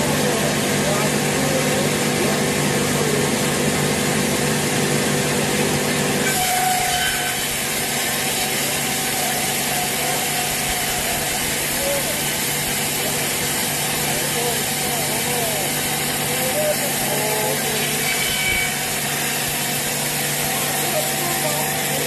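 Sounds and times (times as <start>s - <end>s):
mill motor running: 0.0s - 22.0s
saw cutting through log: 0.0s - 22.0s.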